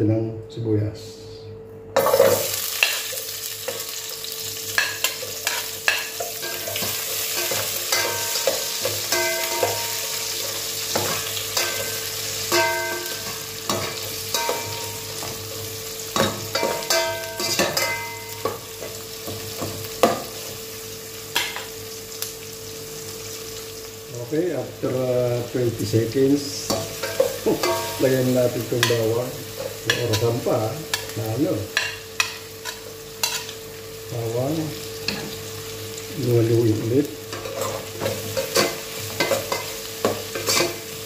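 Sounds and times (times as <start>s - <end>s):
onions sizzling in oil: 2.0s - 41.0s.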